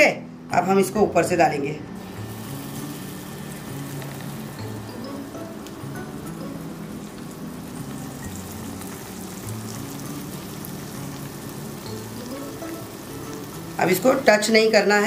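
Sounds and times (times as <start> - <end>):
background music with low notes: 0.0 - 15.0
batter sizzling in hot oil: 2.0 - 15.0.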